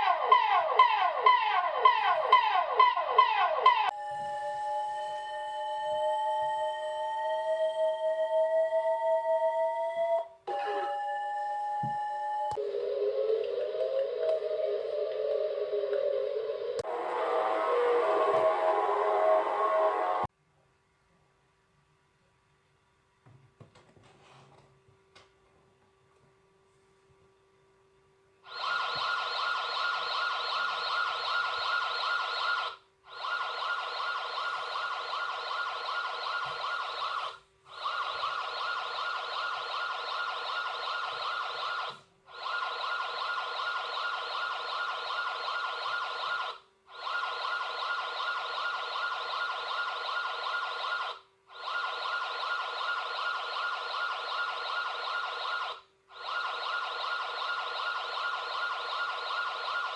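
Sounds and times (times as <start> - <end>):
emergency alert siren blasts: 0.0 - 20.3, 28.5 - 59.9.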